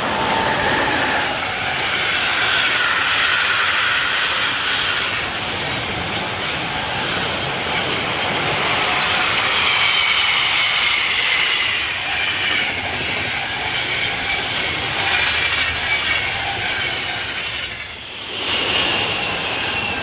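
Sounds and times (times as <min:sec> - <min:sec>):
trains rushing past: 0:00.0 - 0:20.0.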